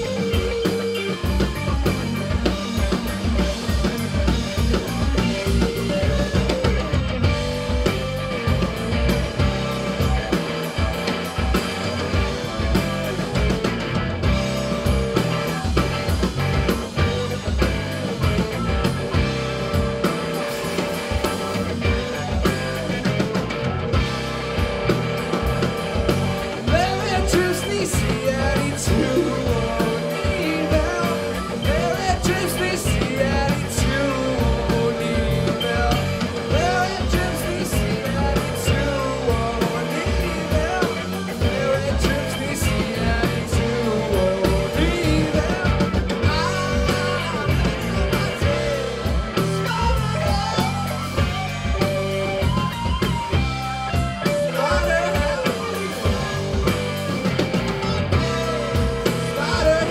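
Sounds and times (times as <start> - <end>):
bass guitar: 0.0 - 59.9
drum kit: 0.0 - 59.9
electric guitar: 0.0 - 59.9
keyboard: 0.0 - 59.9.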